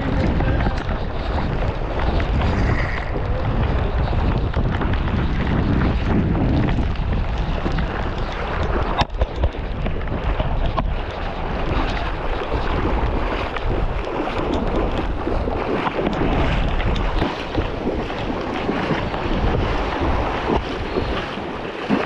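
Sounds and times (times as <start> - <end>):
breaking surf: 0.0 - 22.0
wind buffeting microphone: 0.0 - 22.0.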